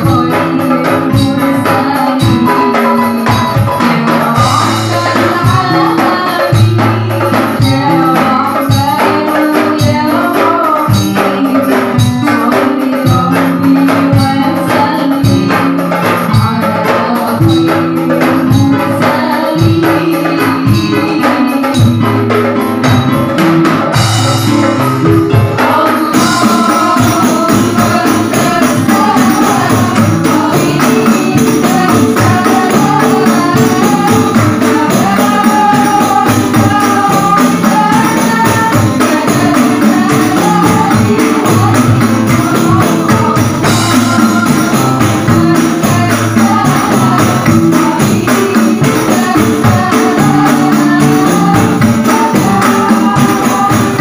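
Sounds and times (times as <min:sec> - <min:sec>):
women singing through microphones: 0:00.0 - 0:22.8, 0:24.0 - 0:54.0
frame drums beating: 0:00.0 - 0:54.0.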